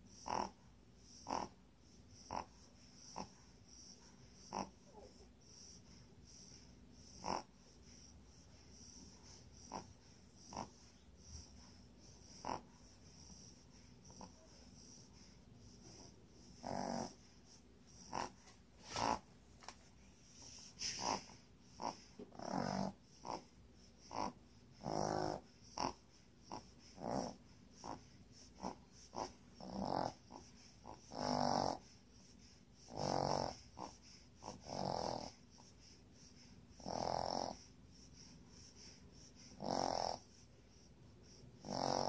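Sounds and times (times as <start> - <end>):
puppy snoring: 0.0 - 42.0.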